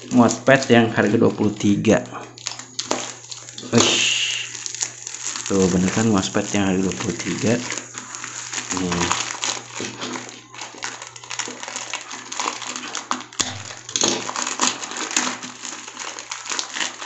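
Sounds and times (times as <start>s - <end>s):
plastic shrink wrap crinkling and tearing: 0.0s - 17.0s.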